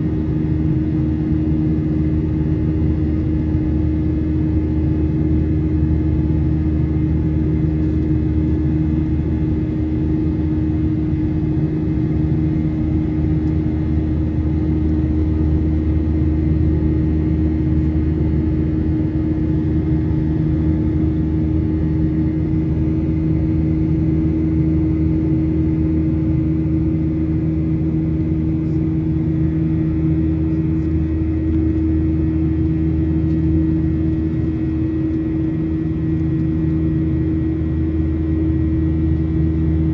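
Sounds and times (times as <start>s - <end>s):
airflow rumble: 0.0s - 39.9s
jet engines humming in cabin: 0.0s - 39.9s.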